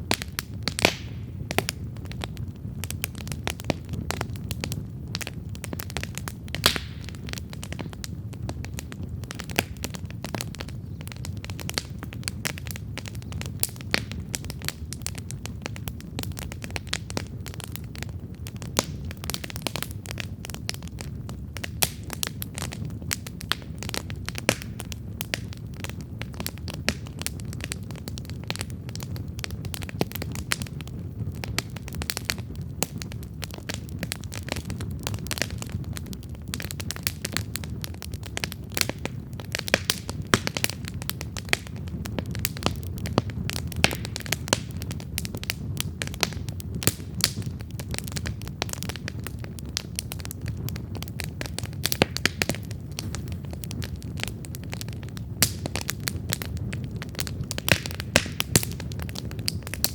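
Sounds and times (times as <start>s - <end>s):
campfire flame rumbling: 0.0s - 59.9s
fire crackling and popping: 0.0s - 59.9s.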